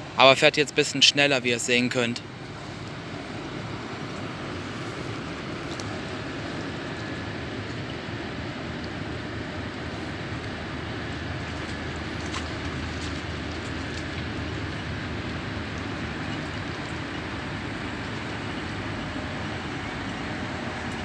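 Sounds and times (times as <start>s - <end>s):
barge diesel engine rumbling: 0.0s - 21.0s.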